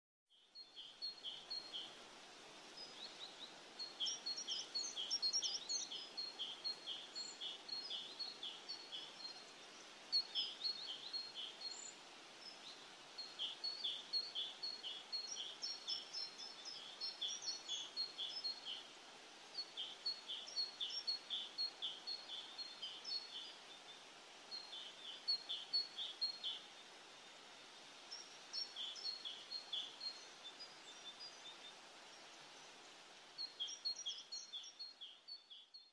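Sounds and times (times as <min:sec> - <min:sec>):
faint steady hiss: 0:00.3 - 0:35.9
small birds chirping: 0:00.3 - 0:35.9.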